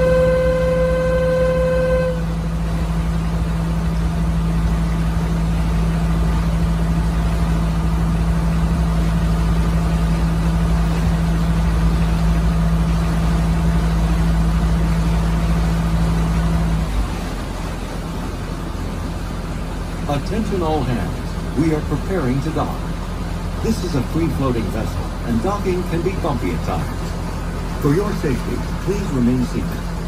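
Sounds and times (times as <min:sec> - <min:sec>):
boat engine humming: 0:00.0 - 0:30.0.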